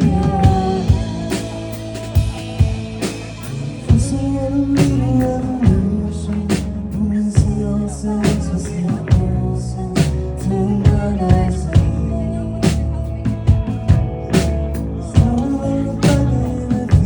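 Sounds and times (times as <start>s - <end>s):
band playing dream-pop song: 0.0s - 17.0s.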